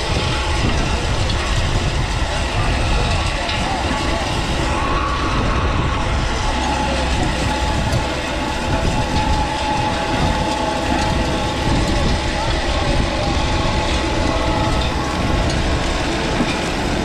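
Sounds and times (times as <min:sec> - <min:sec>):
diesel engine under load: 0:00.0 - 0:17.0
rake rotor churning gravel: 0:00.0 - 0:17.0.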